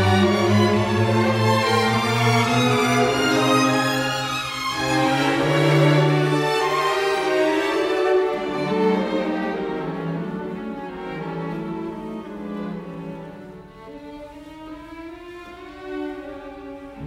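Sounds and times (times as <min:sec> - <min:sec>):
slow bowed strings music: 0:00.0 - 0:17.0.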